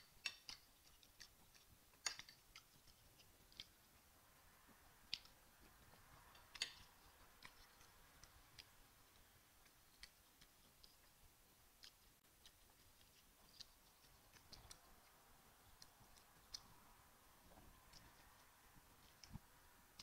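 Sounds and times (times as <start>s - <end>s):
person chewing wet clicks: 0.0s - 20.0s.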